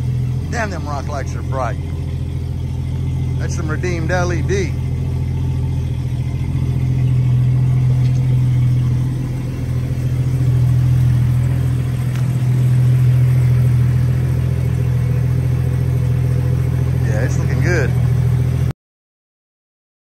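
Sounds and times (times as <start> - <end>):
car engine idling: 0.0 - 18.7.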